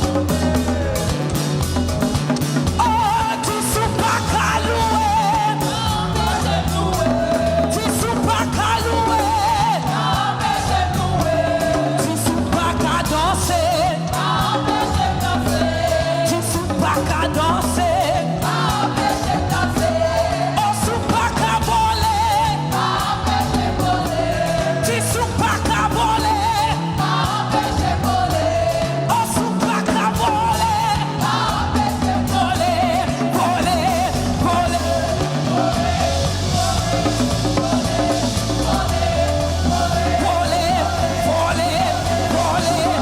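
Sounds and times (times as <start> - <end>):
band with drums bass keyboard: 0.0 - 43.0
gospel singing: 0.0 - 43.0.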